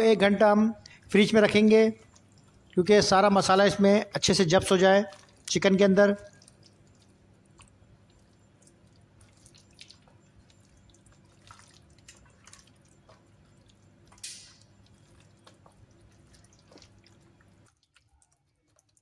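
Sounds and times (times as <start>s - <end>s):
hand kneading wet meat: 0.0s - 19.0s
low steady hum: 0.0s - 19.0s.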